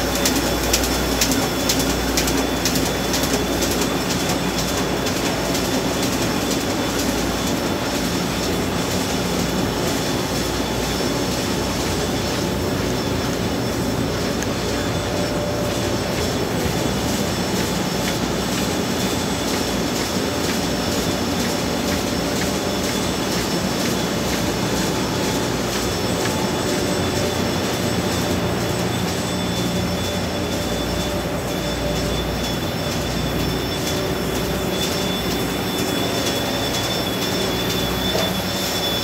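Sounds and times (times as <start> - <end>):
printing press mechanical din: 0.0 - 39.0
thin high whine: 0.0 - 39.0.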